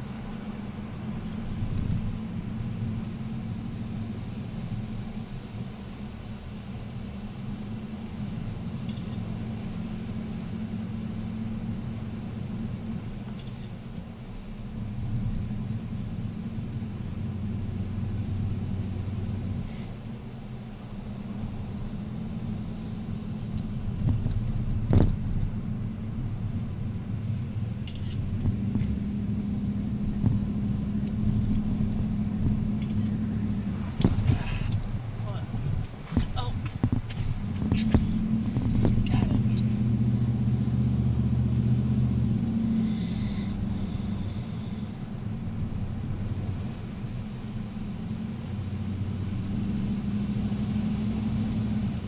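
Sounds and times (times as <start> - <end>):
vehicle engine and tyre rumble: 0.0 - 52.0.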